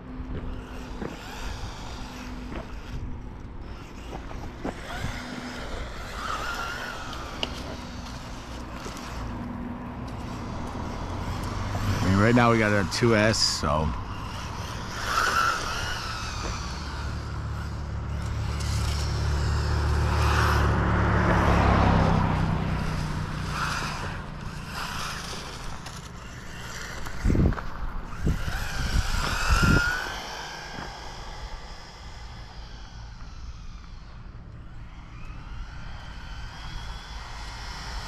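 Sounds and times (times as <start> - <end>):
toy car electric motor whining: 0.1 - 38.0.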